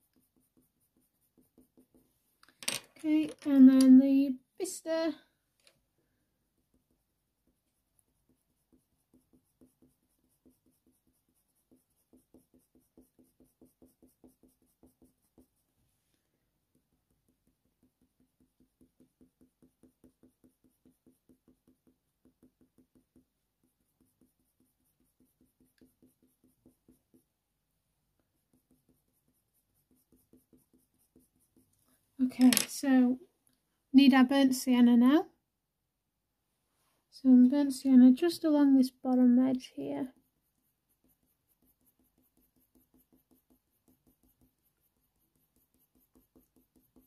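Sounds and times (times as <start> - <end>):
pencil strokes on paper: 0.0 - 2.4, 3.0 - 33.2, 36.7 - 47.0.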